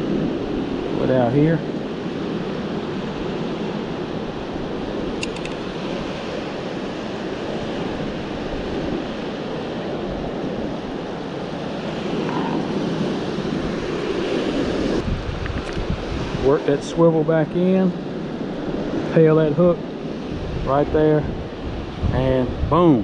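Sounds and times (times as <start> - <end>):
surf washing on beach: 0.0 - 23.0
wind rumbling on microphone: 0.0 - 23.0.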